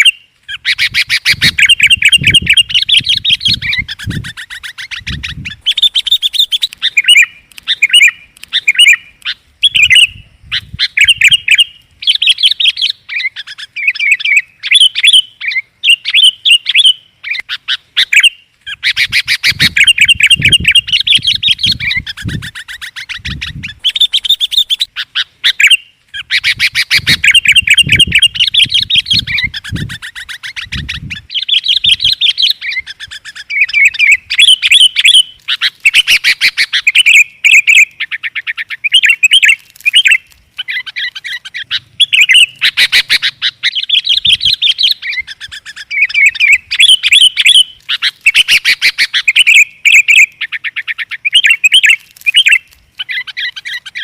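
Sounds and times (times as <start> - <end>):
bulbul chattering calls: 0.0 - 54.0.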